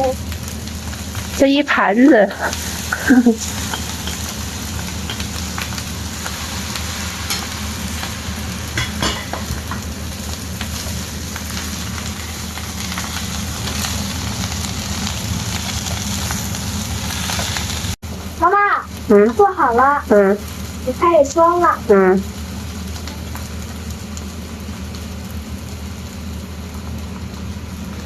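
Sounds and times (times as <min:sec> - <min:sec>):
rice sizzling in a pan: 0:00.0 - 0:28.0
steady low hum: 0:00.0 - 0:28.0.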